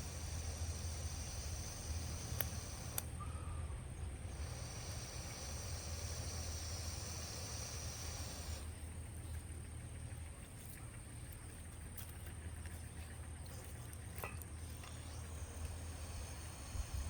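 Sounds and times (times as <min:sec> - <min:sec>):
insects trilling: 0:00.0 - 0:17.0
low steady rumble: 0:00.0 - 0:17.0.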